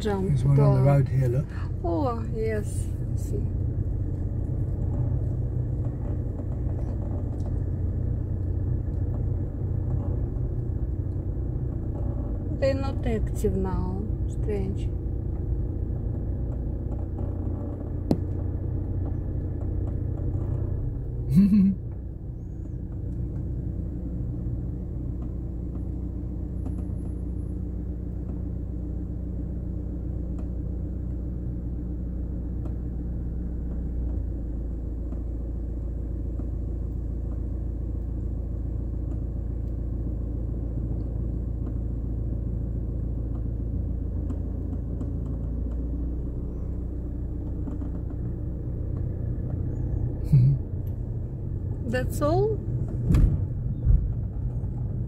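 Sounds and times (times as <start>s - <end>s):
car engine rumble: 0.0s - 55.0s
tyres on road: 0.0s - 55.0s.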